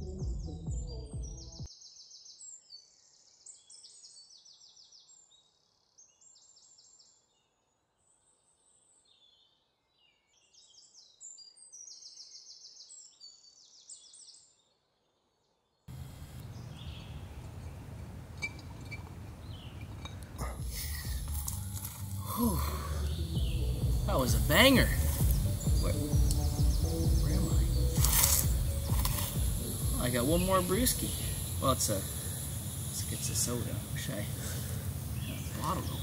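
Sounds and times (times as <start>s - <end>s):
songbirds singing: 0.0s - 15.1s, 15.7s - 36.0s.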